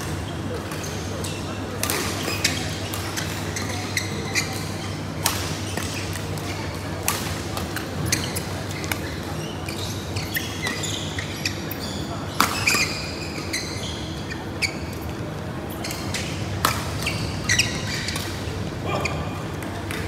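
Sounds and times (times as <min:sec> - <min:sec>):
shoes squeaking on court: 0:00.0 - 0:20.0.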